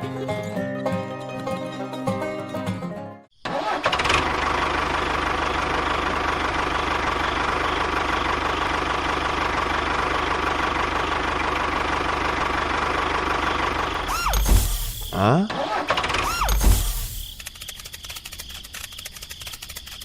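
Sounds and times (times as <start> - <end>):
engine starting and running: 3.4 - 20.0.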